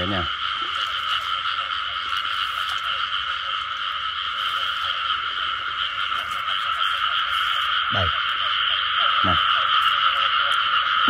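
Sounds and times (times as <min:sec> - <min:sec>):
chorus of frogs calling: 0:00.0 - 0:11.0.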